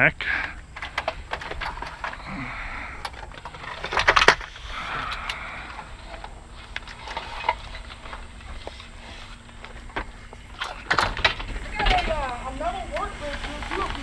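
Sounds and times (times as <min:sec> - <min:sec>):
items clattering into truck bed: 0:00.3 - 0:14.0.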